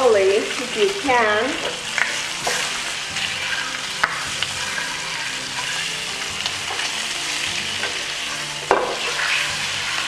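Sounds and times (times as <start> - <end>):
pork sizzling in a frying pan: 0.0 - 10.0.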